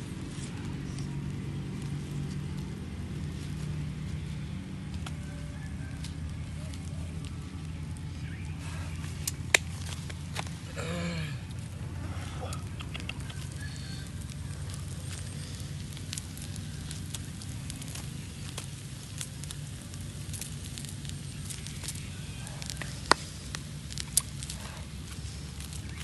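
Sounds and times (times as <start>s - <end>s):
charcoal fire crackling: 0.0s - 26.0s
sharp fire snaps: 0.0s - 26.0s.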